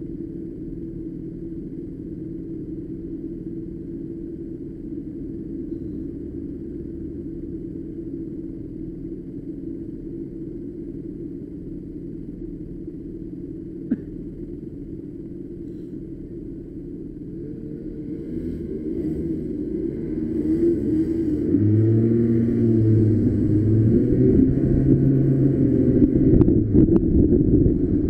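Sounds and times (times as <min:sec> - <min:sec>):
road and wind noise: 0:00.0 - 0:28.0.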